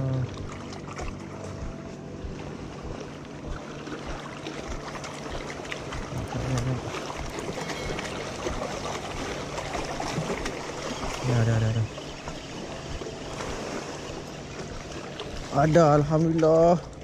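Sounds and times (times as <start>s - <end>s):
river water lapping on rocks: 0.0s - 1.7s, 2.3s - 17.0s.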